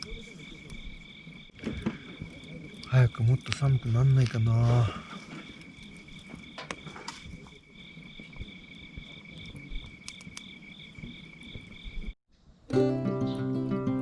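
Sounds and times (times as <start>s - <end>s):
crickets trilling: 0.0s - 12.2s.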